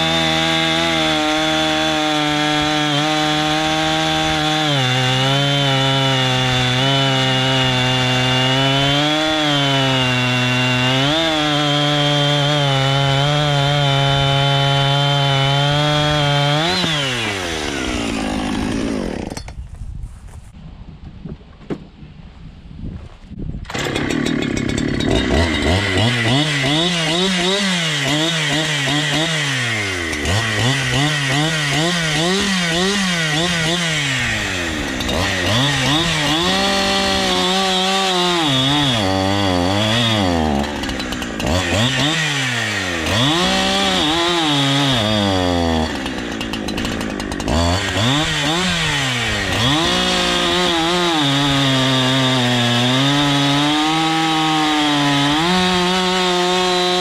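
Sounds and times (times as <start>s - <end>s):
chainsaw cutting log: 0.0s - 19.6s, 23.7s - 57.0s.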